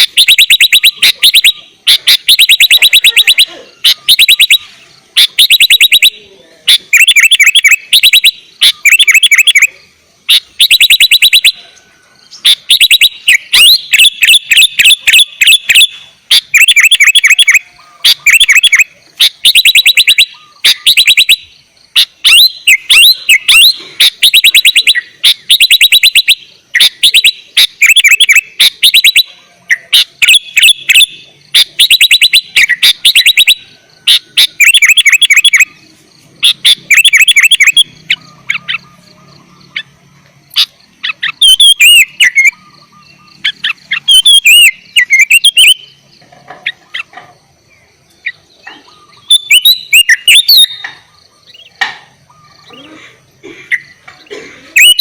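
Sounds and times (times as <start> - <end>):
bird whistled notes: 0.0 - 47.2, 48.1 - 53.0, 53.7 - 55.0
bulbul chirping: 0.0 - 55.0.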